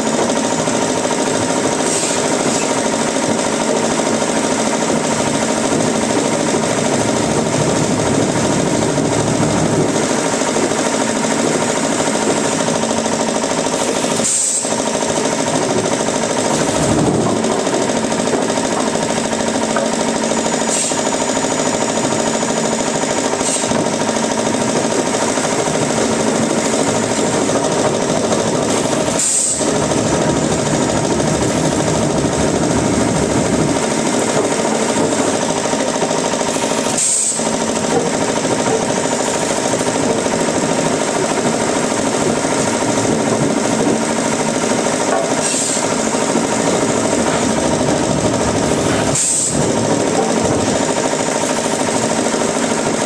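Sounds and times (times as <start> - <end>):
wood-cutting machinery drone: 0.0 - 53.0.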